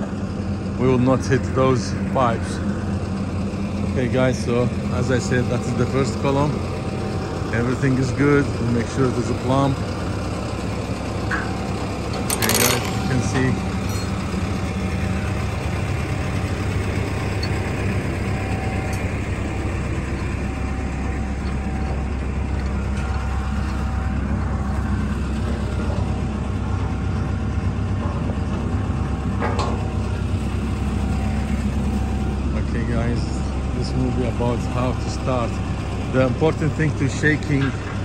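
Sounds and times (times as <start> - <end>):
heavy engine idling: 0.0 - 38.0.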